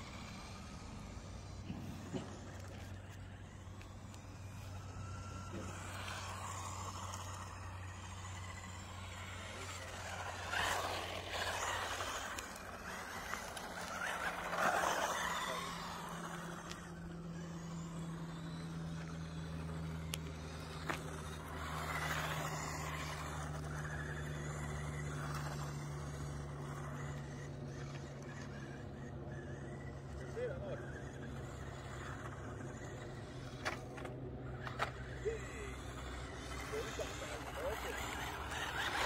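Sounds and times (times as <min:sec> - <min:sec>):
electric rc cars motor whine: 0:00.0 - 0:39.0
steady low hum: 0:00.0 - 0:39.0
tyre noise on asphalt: 0:00.0 - 0:39.0.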